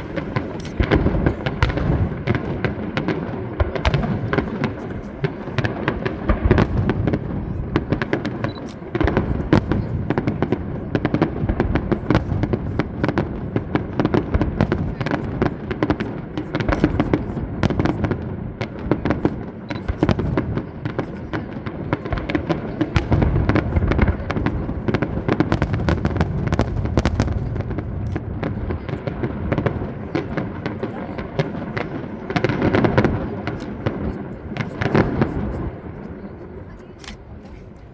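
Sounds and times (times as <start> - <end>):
deep fireworks booms: 0.0 - 37.4
fireworks bursts and crackling: 0.0 - 37.9.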